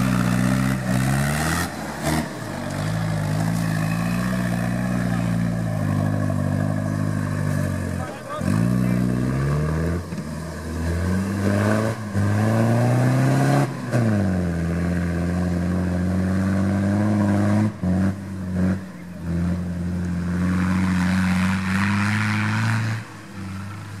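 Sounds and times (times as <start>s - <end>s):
engine revving under load: 0.0s - 24.0s.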